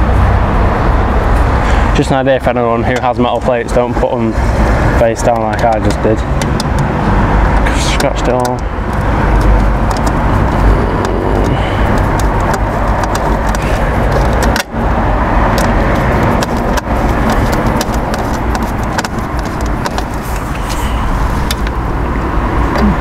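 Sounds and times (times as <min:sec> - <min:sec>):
loud steady rushing noise: 0:00.0 - 0:23.0.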